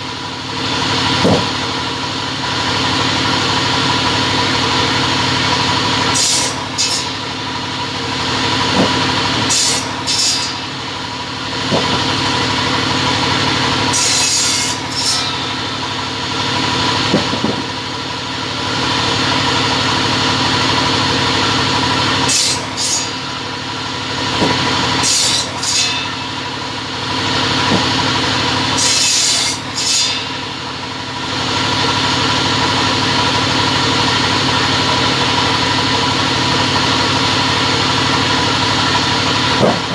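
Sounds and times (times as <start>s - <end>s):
cutting saw humming: 0.0s - 39.9s.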